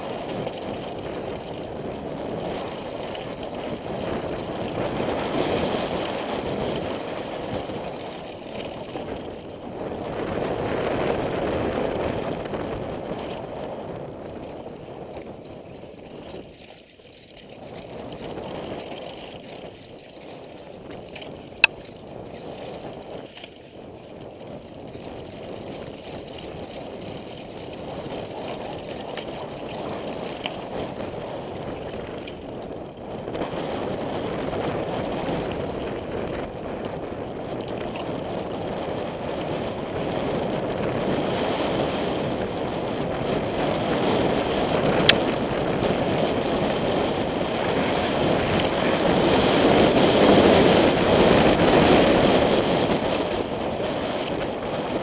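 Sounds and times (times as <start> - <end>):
bike tyres rolling on dirt: 0.0 - 55.0
wind on microphone: 0.0 - 55.0.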